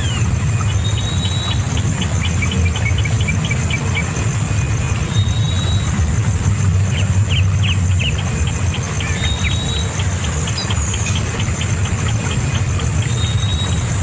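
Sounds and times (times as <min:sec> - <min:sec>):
constant low rumble: 0:00.0 - 0:14.0.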